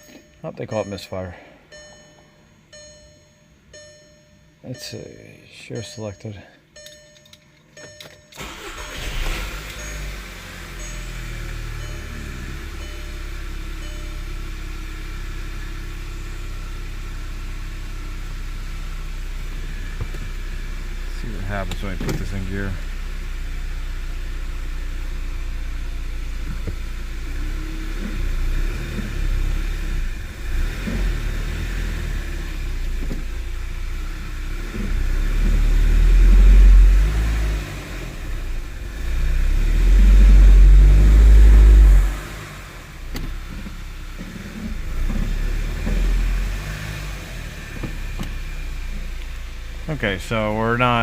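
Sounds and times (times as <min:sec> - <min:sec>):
car engine low rumble: 0:00.0 - 0:51.0.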